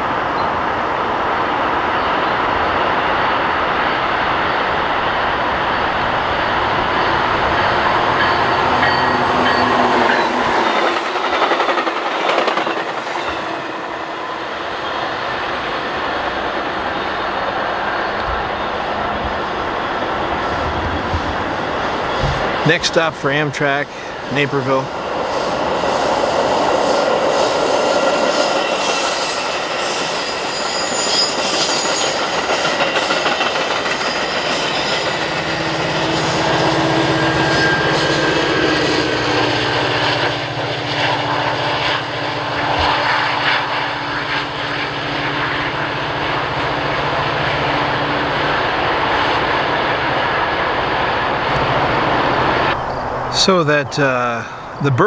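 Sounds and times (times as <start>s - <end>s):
train wheels rushing on rail: 0.0s - 55.0s.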